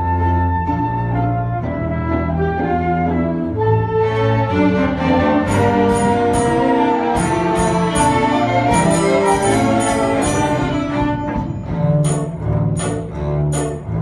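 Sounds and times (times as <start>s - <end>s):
solo double bass: 0.0s - 14.0s
string orchestra: 0.0s - 14.0s.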